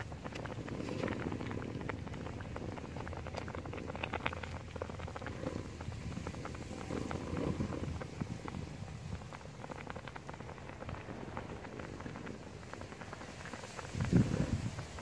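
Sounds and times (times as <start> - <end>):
liquid bubbling with pops: 0.0 - 15.0.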